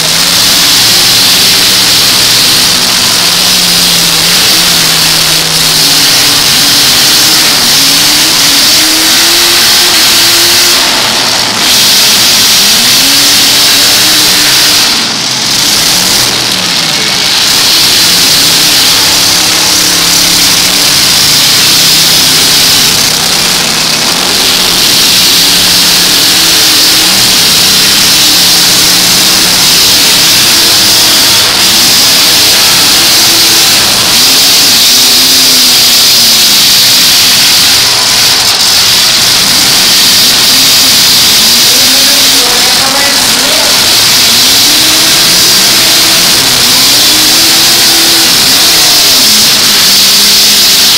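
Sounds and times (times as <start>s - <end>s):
truck engines revving: 0.0s - 50.9s.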